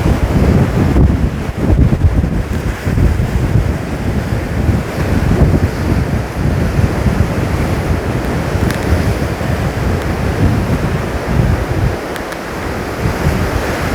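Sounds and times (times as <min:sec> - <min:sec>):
heavy surf breaking: 0:00.0 - 0:13.9
wind buffeting microphone: 0:00.0 - 0:13.9.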